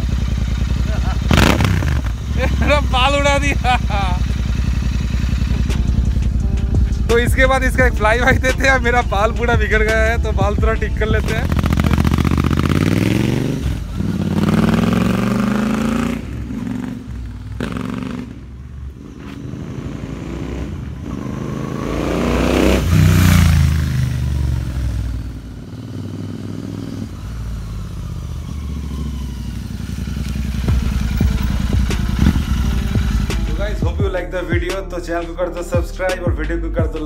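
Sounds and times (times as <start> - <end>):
motorcycle engine revving: 0.0 - 34.1.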